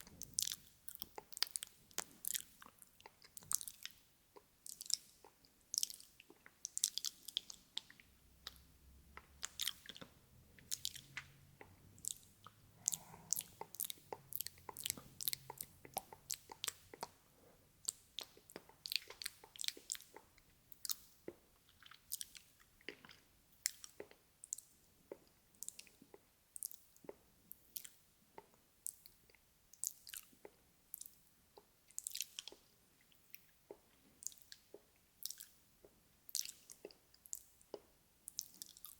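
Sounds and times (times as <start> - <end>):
wet mouth clicks and smacks: 0.0 - 17.2, 17.8 - 38.9.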